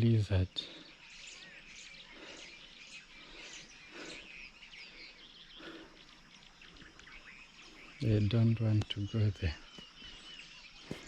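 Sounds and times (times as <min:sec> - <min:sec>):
wild birds chirping: 0:00.0 - 0:11.0.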